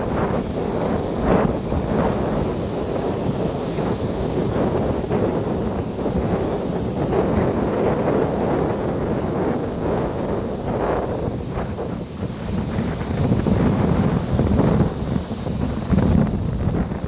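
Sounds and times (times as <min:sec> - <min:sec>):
surf on sandy beach: 0:00.0 - 0:17.0
wind buffeting microphone: 0:00.0 - 0:17.0.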